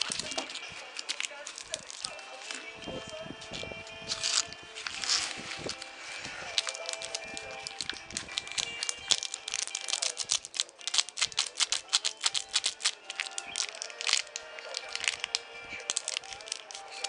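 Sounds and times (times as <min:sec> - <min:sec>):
background music: 0:00.0 - 0:17.0
plastic wrapper crinkling: 0:00.0 - 0:17.0.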